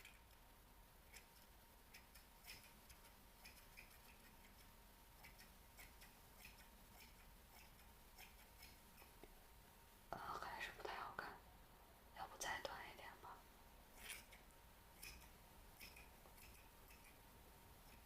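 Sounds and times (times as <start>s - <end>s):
faint steady electrical tone: 0.0s - 18.0s.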